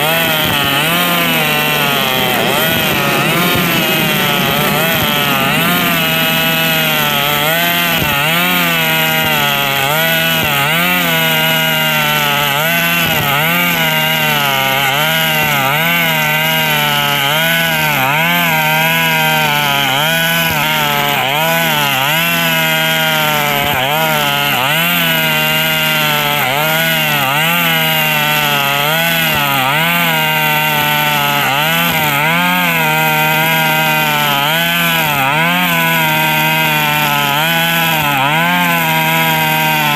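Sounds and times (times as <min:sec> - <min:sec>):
brush cutter engine under load: 0:00.0 - 0:39.9.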